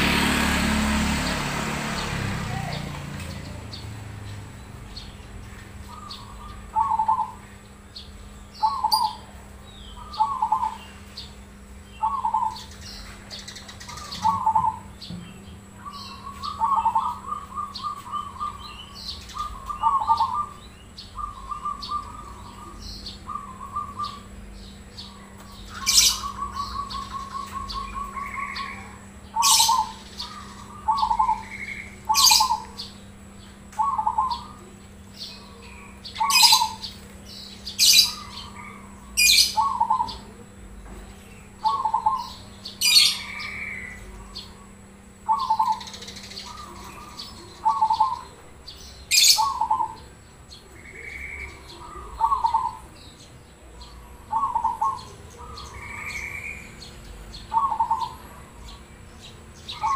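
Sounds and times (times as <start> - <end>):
dove cooing: 2.4 - 53.2, 53.8 - 59.9.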